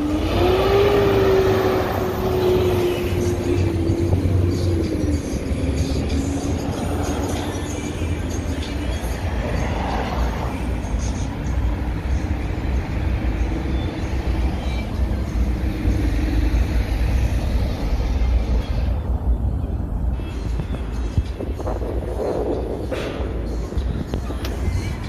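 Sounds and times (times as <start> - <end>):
steady engine hum: 0.0 - 25.0
traffic rumble: 0.0 - 25.0.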